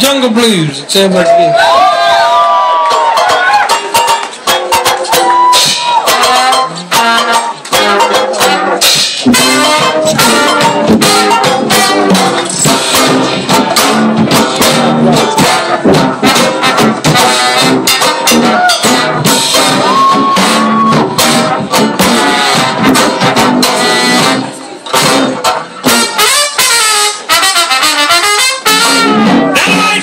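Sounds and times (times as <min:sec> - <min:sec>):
drums: 0:00.0 - 0:30.0
brass horns: 0:02.8 - 0:30.0
banjo: 0:02.9 - 0:30.0
live jazz-blues band: 0:03.0 - 0:30.0.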